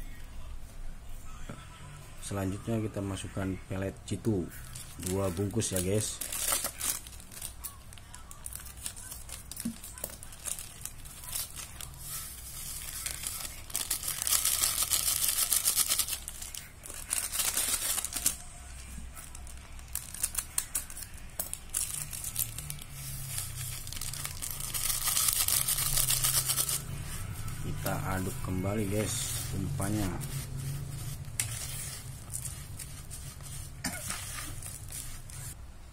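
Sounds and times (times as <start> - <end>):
plastic packets crinkling and tearing: 4.6 - 35.6.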